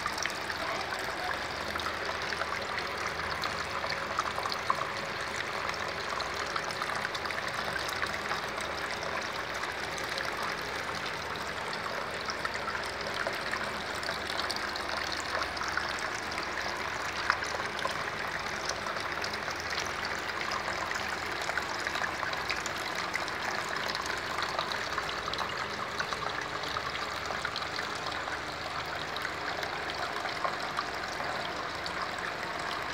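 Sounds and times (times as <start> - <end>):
small water drips: 0.0 - 32.9
water fountain trickling and splashing: 0.0 - 32.9.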